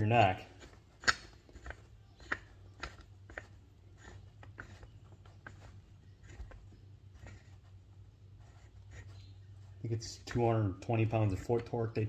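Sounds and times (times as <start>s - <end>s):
metal parts clicking and rubbing: 0.0s - 9.8s
low steady hum: 0.0s - 12.0s.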